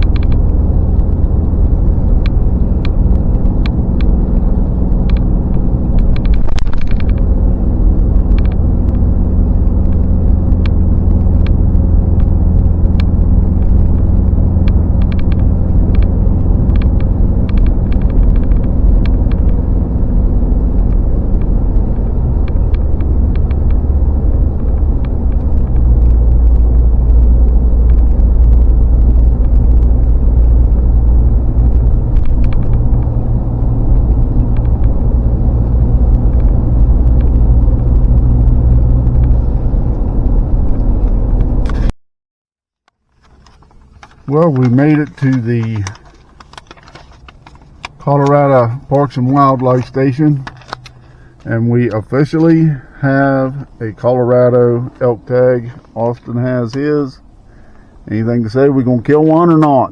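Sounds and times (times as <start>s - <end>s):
road and engine drone: 0.0s - 42.0s, 42.7s - 59.9s.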